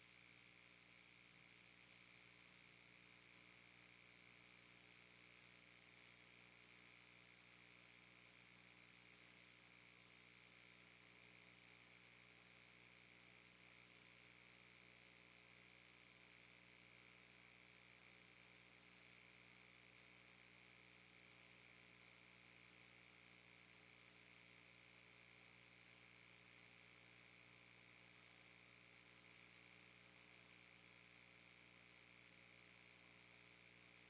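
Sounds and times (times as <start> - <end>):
faint steady hum and hiss: 0.0 - 34.0.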